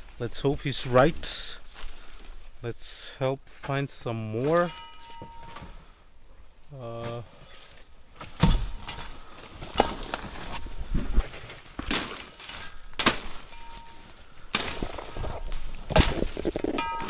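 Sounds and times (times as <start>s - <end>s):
leaves and twigs crackling: 0.0s - 17.0s.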